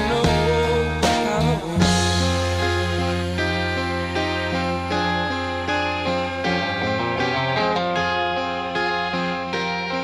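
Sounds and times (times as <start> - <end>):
steady low bass: 0.0 - 8.3
guitar music: 0.0 - 10.0.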